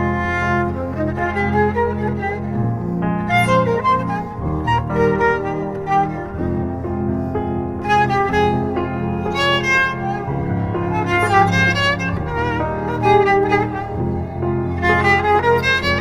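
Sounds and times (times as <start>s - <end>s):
low sustained strings: 0.0s - 16.0s
violin melody: 0.0s - 16.0s.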